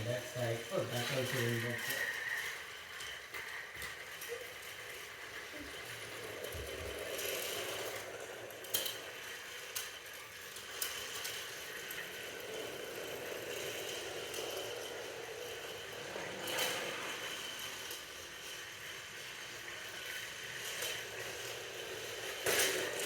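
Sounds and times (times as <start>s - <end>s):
machine running with rattle: 0.0s - 23.0s.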